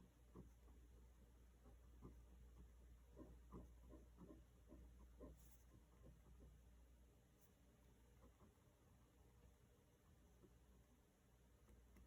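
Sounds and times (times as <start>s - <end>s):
pen scratching on paper: 0.0s - 10.9s
quiet room hum: 0.0s - 12.0s.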